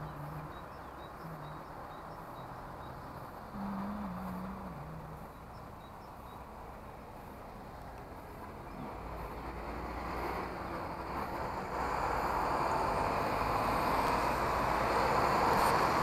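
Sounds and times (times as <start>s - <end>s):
road traffic engines and tyres: 0.0s - 16.0s.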